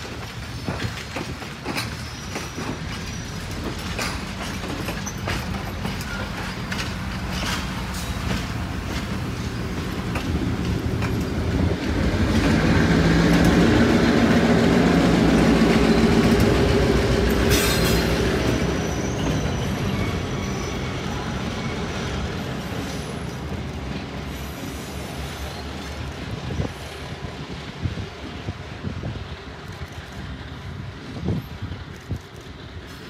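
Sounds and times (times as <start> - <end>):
diesel train passing: 0.0 - 33.0.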